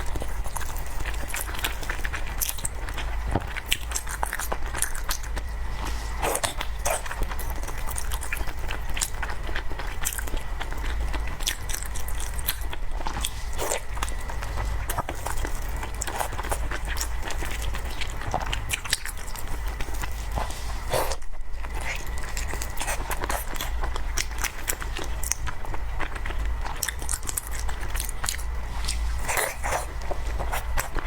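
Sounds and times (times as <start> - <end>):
person chewing: 0.0 - 31.0
steady low hum: 0.0 - 31.0.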